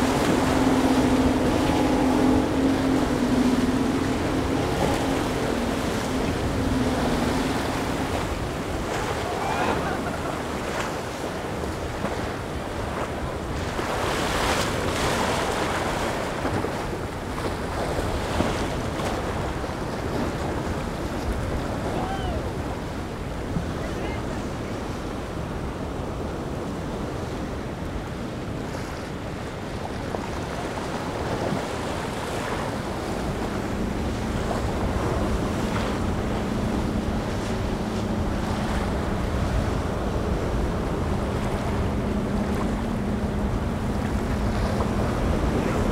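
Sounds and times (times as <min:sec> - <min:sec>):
outboard motor hum: 0:00.0 - 0:45.9
waves and choppy surf: 0:00.0 - 0:45.9
wind buffeting microphone: 0:00.0 - 0:45.9.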